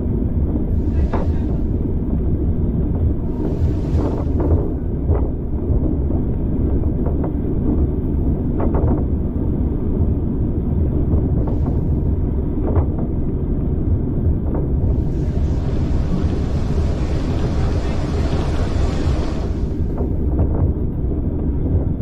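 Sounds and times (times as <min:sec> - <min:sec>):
train wheels rumbling on rails: 0:00.2 - 0:22.0.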